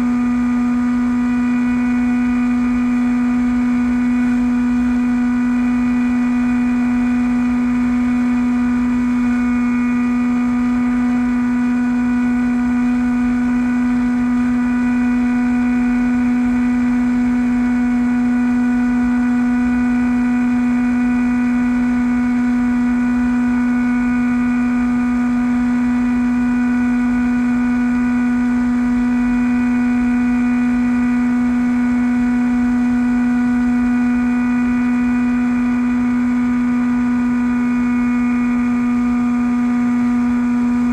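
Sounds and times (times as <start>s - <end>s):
model plane motor humming: 0.0s - 40.9s.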